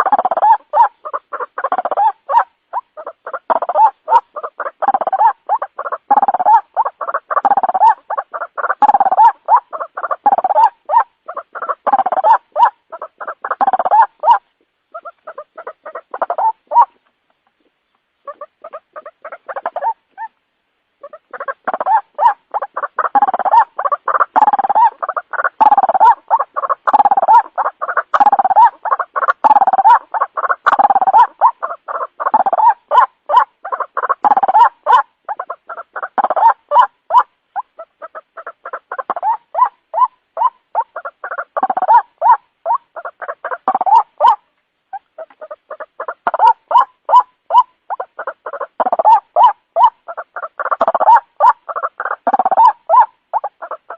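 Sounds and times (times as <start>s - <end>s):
waterhen calling harsh notes: 0.0s - 17.0s, 18.2s - 20.4s, 21.0s - 53.9s.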